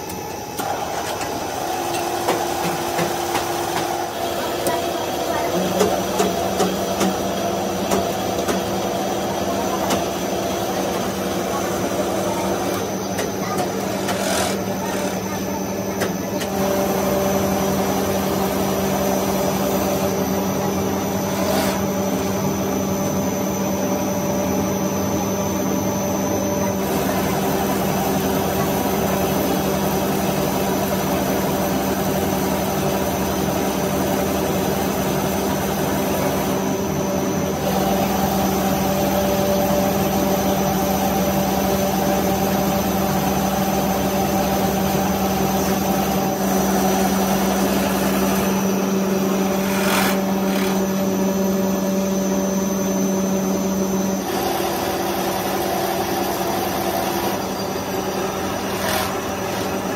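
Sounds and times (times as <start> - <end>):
extruder machine hum: 0.0 - 59.9.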